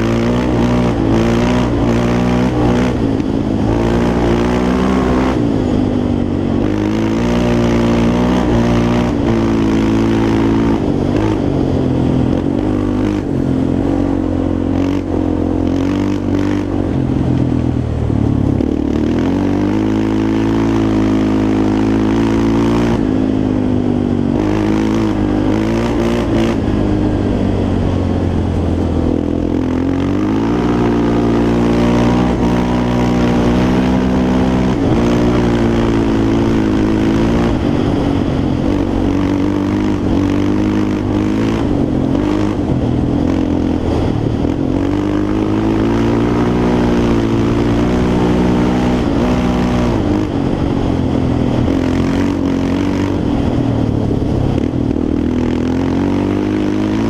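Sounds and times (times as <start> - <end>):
quad engine revving under load: 0.0 - 57.0.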